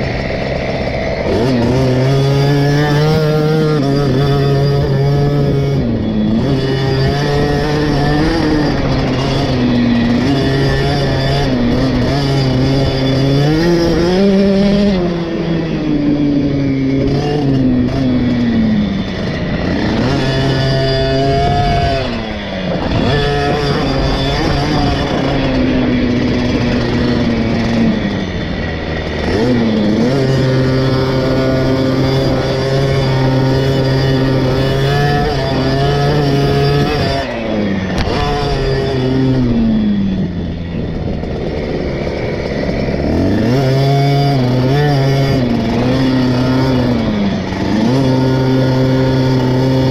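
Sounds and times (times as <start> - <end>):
two-stroke motorcycle engine revving: 0.0 - 49.9
wind noise on microphone: 0.0 - 49.9.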